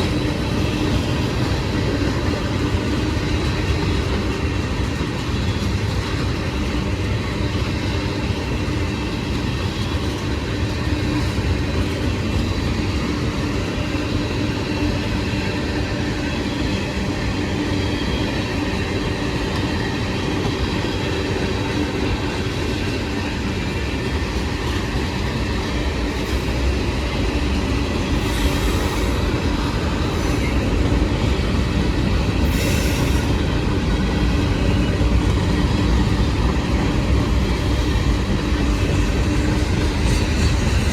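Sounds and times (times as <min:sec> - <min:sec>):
freight train wheels rumbling: 0:00.0 - 0:40.9
train wheel squeal: 0:00.0 - 0:40.9.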